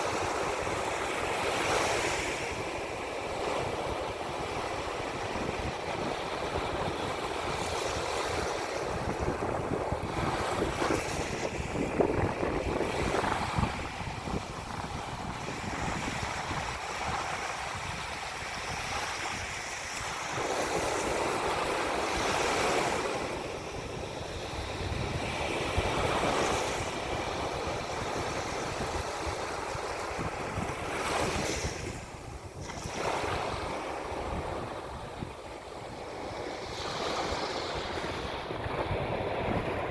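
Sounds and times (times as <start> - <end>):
ocean waves washing ashore: 0.0 - 39.9
wind buffeting microphone: 0.0 - 39.9.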